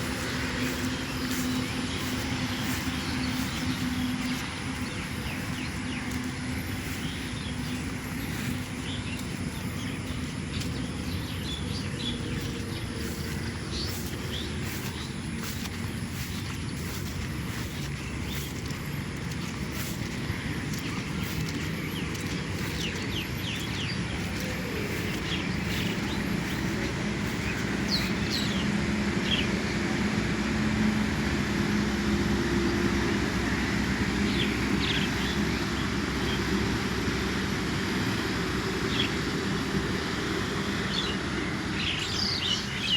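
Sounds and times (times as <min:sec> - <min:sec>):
distant motor traffic rumble: 0:00.0 - 0:42.9
engine hum: 0:00.0 - 0:42.9.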